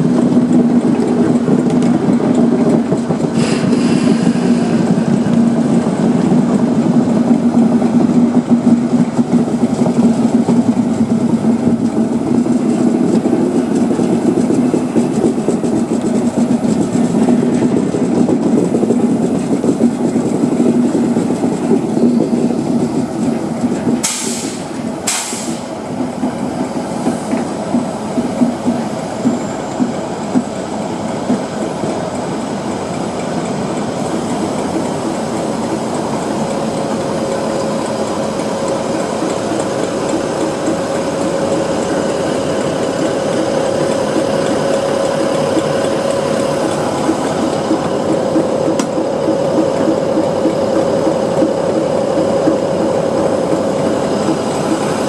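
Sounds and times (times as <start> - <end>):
diesel locomotive engine: 0.0 - 55.0
steady whine: 0.0 - 55.0
wheels clacking over rails: 0.0 - 55.0.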